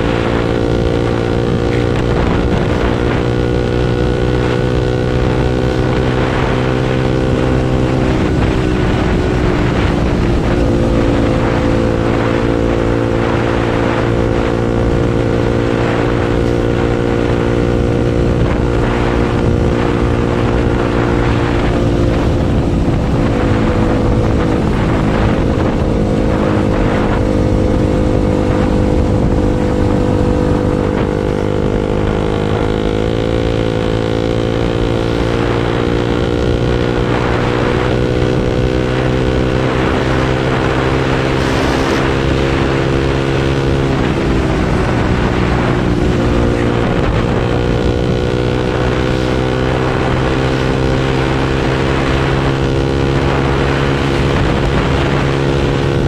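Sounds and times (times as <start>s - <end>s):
motorcycle engine with loud exhaust: 0.0s - 56.0s.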